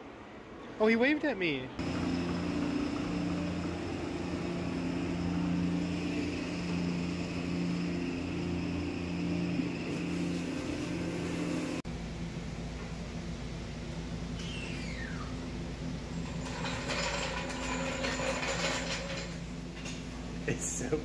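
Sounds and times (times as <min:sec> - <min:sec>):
low mechanical drone: 0:01.8 - 0:21.0.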